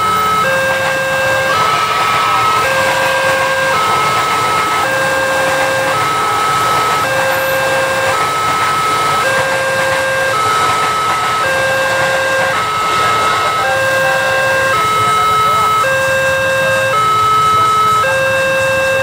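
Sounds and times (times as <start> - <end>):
passing electric train rushing: 0.0 - 19.0
two-tone level-crossing alarm: 0.0 - 19.0.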